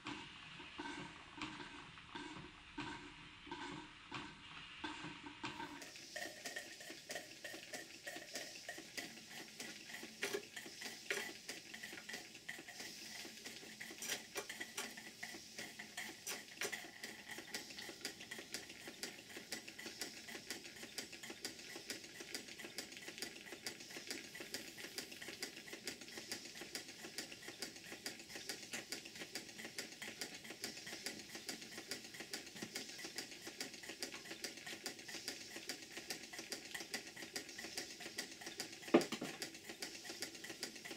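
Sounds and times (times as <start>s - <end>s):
steam engines ticking clatter: 0.0s - 40.9s
steam hissing: 5.5s - 40.9s.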